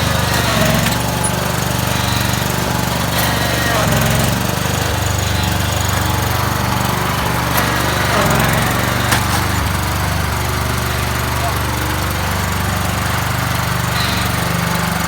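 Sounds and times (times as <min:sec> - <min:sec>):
lawn tractor engine running: 0:00.0 - 0:15.0.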